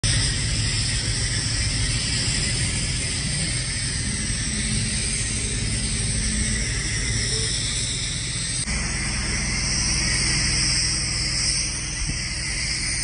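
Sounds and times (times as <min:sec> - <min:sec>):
washer motor drone: 0:00.0 - 0:13.0
water jet hissing: 0:00.0 - 0:13.0.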